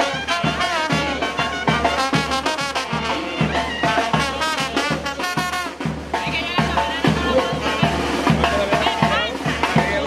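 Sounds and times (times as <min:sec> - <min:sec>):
trumpets and trombones melody: 0:00.0 - 0:09.8
steady drum beat: 0:00.0 - 0:10.0.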